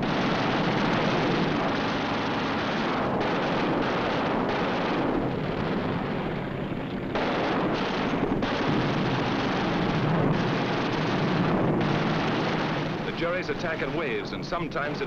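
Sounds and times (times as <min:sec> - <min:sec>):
aircraft engines roaring: 0:00.0 - 0:15.0
rumbling gunfire: 0:00.0 - 0:15.0.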